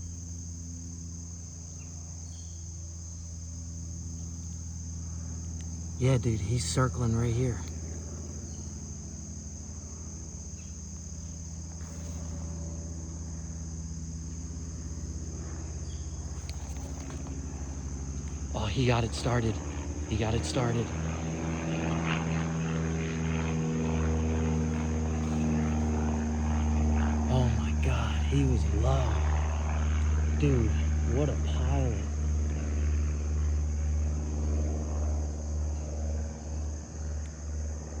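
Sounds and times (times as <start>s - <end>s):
crickets chirring: 0.0s - 38.0s
low steady drone: 0.0s - 38.0s.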